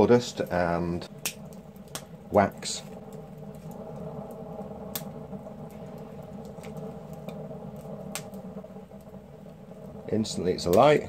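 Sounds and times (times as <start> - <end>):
fire starter crackling: 0.0 - 11.0
steady low hum: 0.0 - 11.0.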